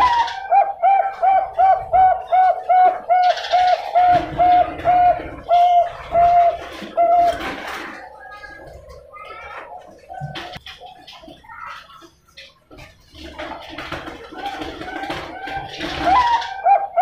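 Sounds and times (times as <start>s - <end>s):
dove cooing: 0.0s - 11.6s, 13.1s - 17.0s.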